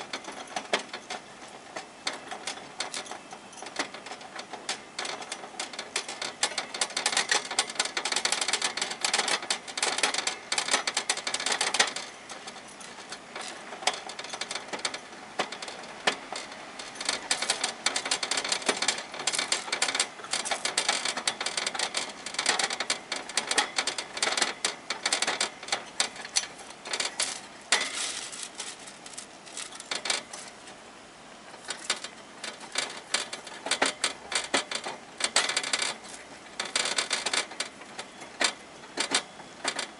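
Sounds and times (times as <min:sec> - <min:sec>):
hamster gnawing on wire bars: 0:00.0 - 0:39.9.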